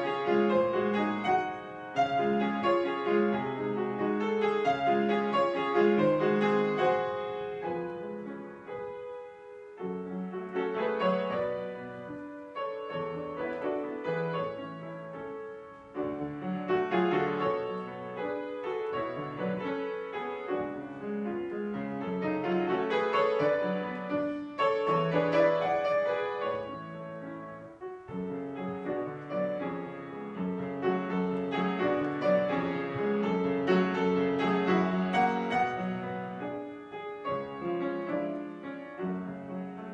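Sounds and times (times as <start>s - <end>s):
piano playing classical music: 0.0s - 39.9s.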